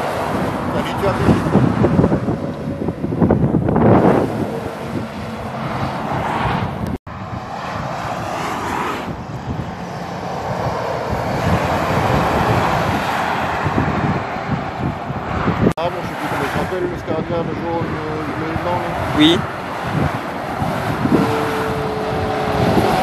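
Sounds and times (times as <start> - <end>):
motorway traffic passing: 0.0 - 23.0.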